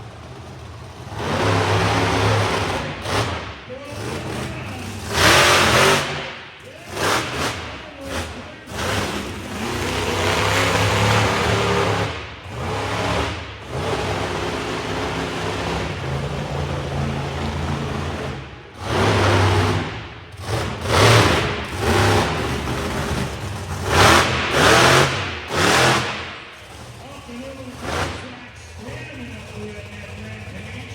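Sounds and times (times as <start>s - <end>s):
monster truck engine revving: 0.0s - 30.9s.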